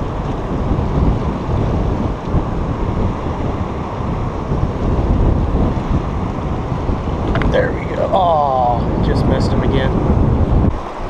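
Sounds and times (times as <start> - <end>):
fast-flowing river rushing: 0.0 - 11.0
wind buffeting microphone: 0.0 - 11.0.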